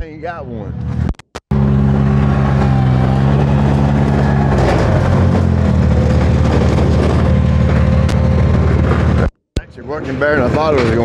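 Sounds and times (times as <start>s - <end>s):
tractor engine running under load: 0.8s - 11.0s.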